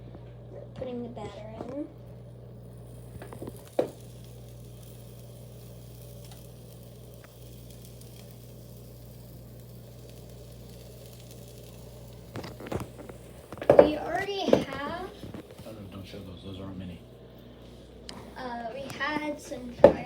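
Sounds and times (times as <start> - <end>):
batter sizzling in a pan: 1.8 - 20.0.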